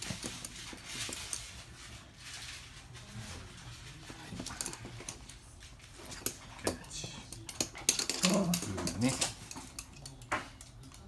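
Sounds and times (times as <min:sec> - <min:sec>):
dogs scuffling on wooden floor: 0:00.0 - 0:11.0.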